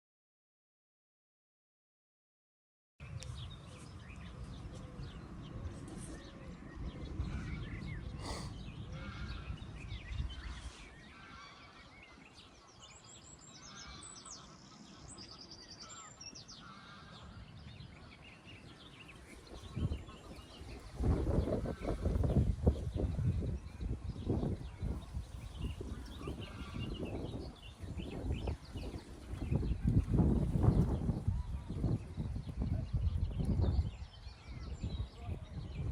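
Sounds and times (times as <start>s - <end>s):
birds chirping and trilling: 3.0s - 35.9s.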